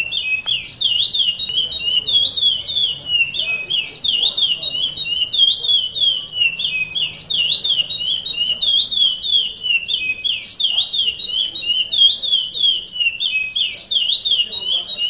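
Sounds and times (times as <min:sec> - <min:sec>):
finch singing whistled notes: 0:00.0 - 0:15.0.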